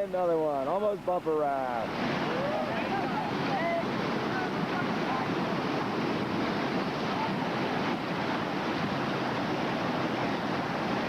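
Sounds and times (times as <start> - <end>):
river rapids rushing: 1.4 - 11.0.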